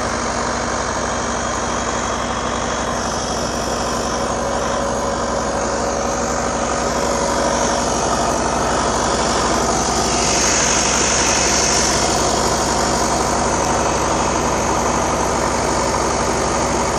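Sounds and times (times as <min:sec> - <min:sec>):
engine running steadily: 0:00.0 - 0:16.9.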